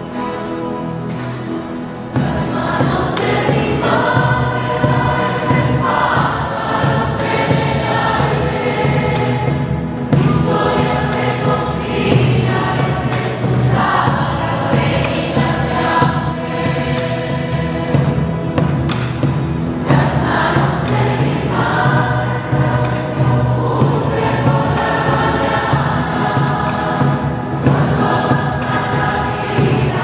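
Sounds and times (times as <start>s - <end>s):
strummed acoustic guitars: 0.0s - 30.0s
choir singing a hymn: 1.8s - 30.0s.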